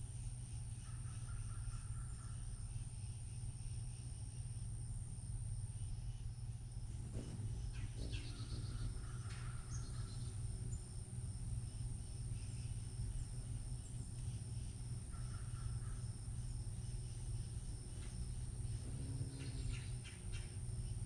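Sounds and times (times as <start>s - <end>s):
high-pitched insect trill: 0.0s - 21.0s
faint bird chirps: 0.4s - 4.5s, 7.1s - 10.9s, 11.6s - 21.0s.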